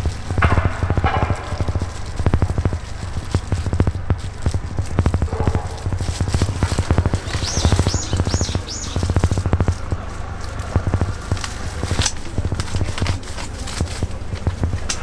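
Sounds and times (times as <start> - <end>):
rapid tapping and clicking: 0.0 - 15.0
steady low hum: 0.0 - 15.0.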